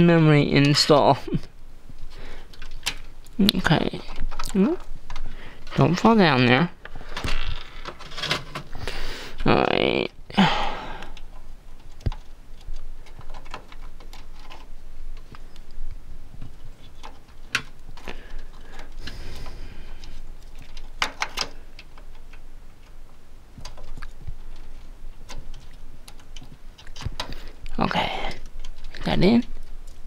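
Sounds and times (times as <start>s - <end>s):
clicks and rattles inside computer case: 2.4s - 8.8s, 11.0s - 15.6s, 16.3s - 30.0s.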